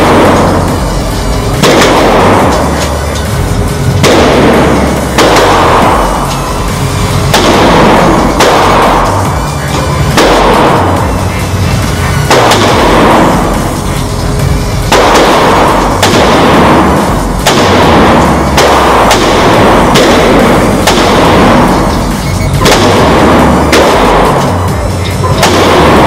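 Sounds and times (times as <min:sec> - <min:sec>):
background music with bass: 0:00.0 - 0:26.0
rifle shots with echo: 0:00.0 - 0:26.0.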